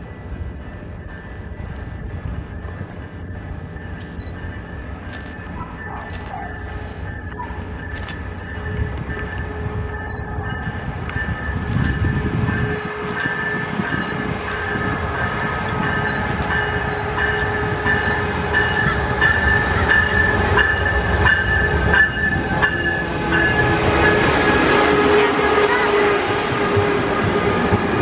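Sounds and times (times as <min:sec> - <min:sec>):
train passing with rumble: 0:00.0 - 0:28.0.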